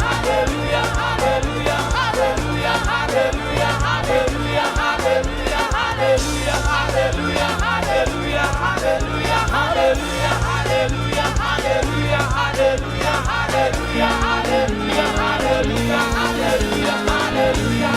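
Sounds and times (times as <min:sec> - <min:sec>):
band playing gospel music: 0:00.0 - 0:17.9
drum beat: 0:00.0 - 0:17.9
many voices singing and shouting: 0:00.0 - 0:17.9.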